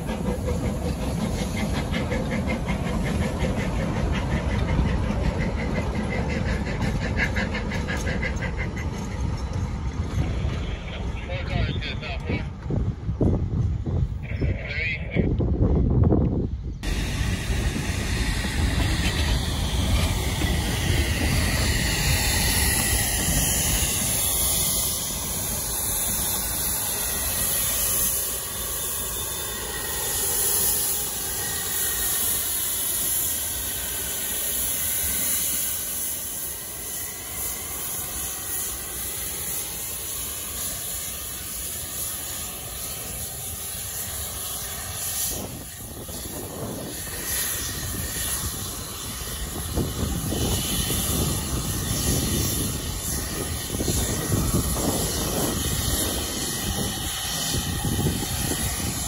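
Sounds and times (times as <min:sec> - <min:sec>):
steam locomotives hissing steam: 0:00.0 - 0:12.4, 0:16.8 - 0:59.0.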